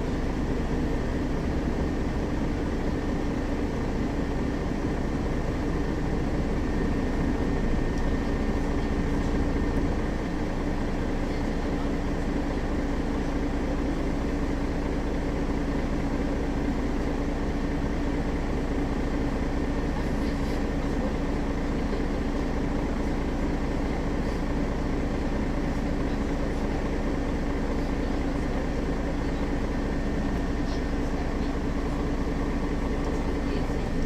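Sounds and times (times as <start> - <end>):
bus engine humming: 0.0 - 34.0.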